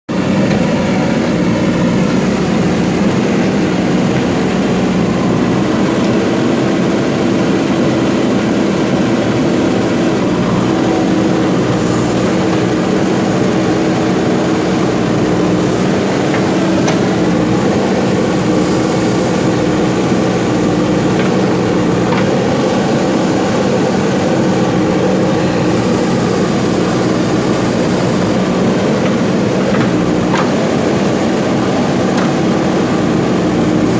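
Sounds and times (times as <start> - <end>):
machinery humming: 0.1 - 33.9.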